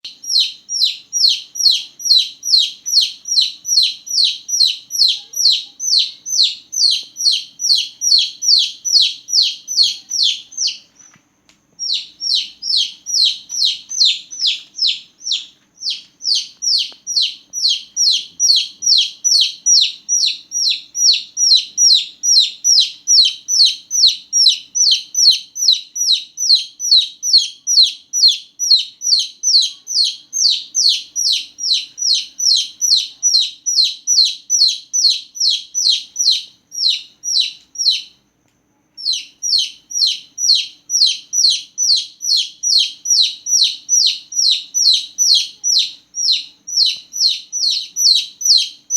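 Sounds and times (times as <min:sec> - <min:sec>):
chicks peeping: 0:00.0 - 0:38.2, 0:39.0 - 0:48.9.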